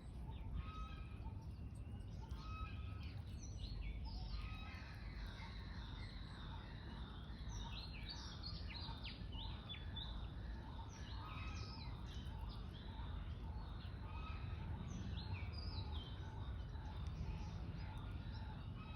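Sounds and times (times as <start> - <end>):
steady low rumble: 0.0 - 18.9.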